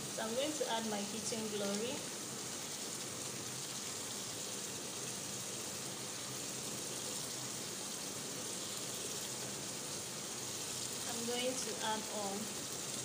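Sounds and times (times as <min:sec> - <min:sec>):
stew sizzling in pot: 0:00.0 - 0:13.0.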